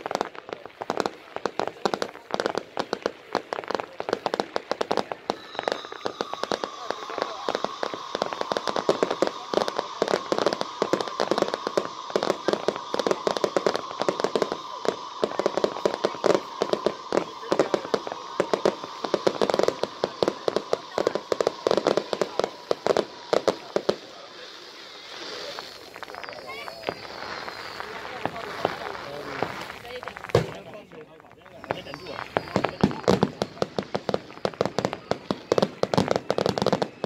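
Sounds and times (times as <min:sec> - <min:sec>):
fireworks cracking and popping: 0:00.0 - 0:37.0.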